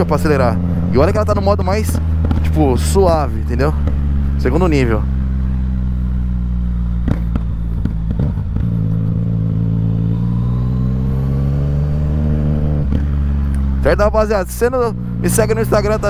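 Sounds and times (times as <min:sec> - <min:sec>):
exhaust crackles: 0:00.0 - 0:16.0
motorcycle engine running: 0:00.0 - 0:16.0.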